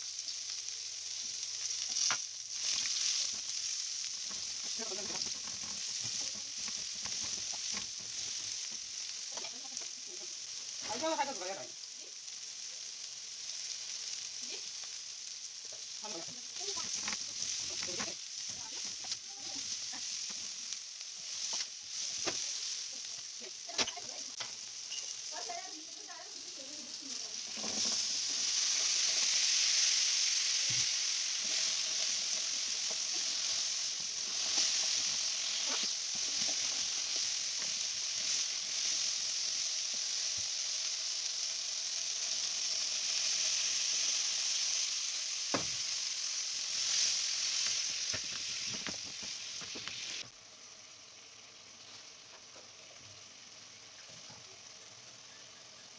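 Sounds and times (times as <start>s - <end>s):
onions sizzling in oil: 0.0s - 55.9s.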